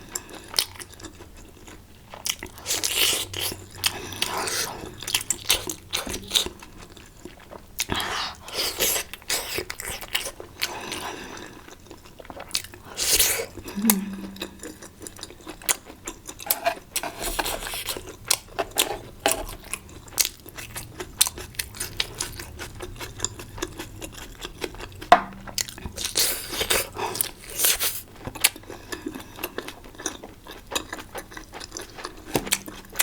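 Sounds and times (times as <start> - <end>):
chewing and biting food: 0.0 - 33.0.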